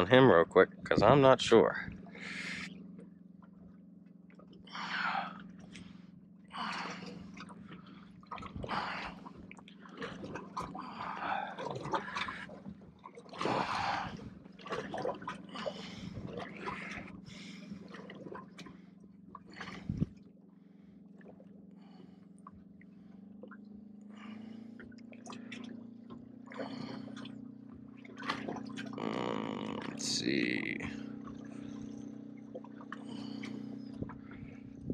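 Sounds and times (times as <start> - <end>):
steady low hum: 0.0 - 34.9
water trickling and splashing: 6.6 - 34.9.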